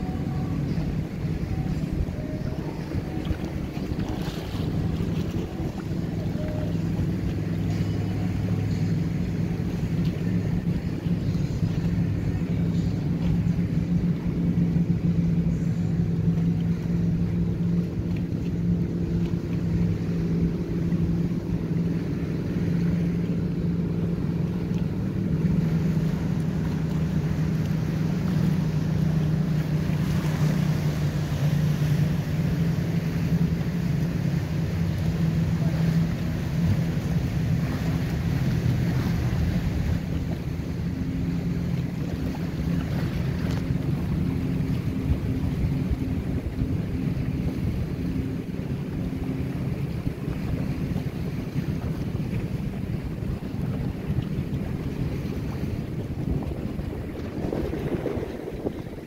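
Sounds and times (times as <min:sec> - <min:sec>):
motorboat engines droning: 0:00.0 - 0:59.0.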